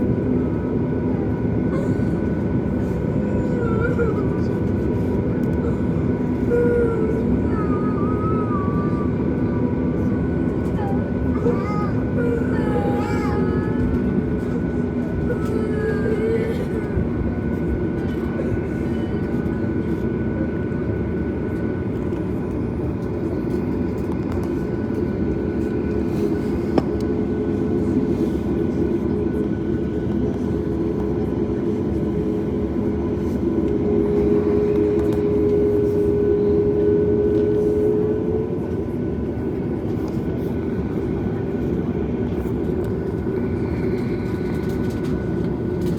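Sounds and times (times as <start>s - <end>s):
jet engines rumbling in cabin: 0.0s - 45.9s.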